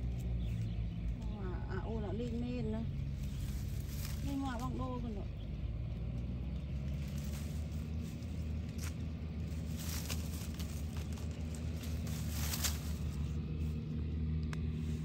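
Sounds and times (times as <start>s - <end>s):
dry leaves rustling: 0.0s - 15.0s
low hum: 0.0s - 15.0s.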